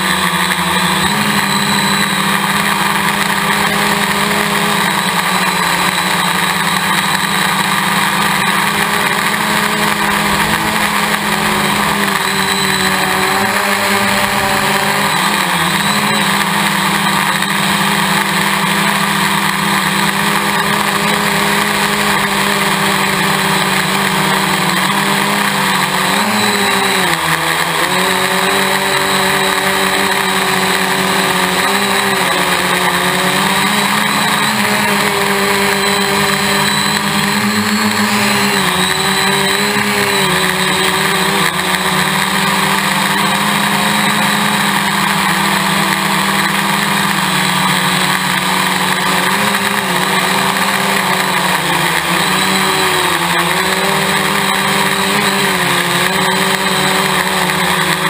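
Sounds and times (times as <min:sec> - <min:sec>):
drone motors whirring: 0:00.0 - 0:58.0.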